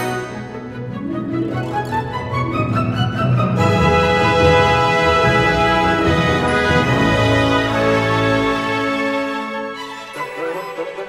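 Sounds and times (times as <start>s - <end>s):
held string chords music: 0.0s - 11.0s.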